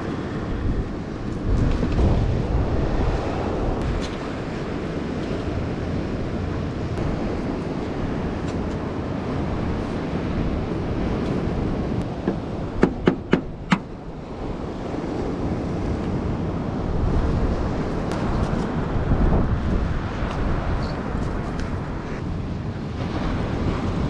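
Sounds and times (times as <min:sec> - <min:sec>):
ocean surf: 0:00.0 - 0:24.0
wind rushing over microphone: 0:00.0 - 0:24.0.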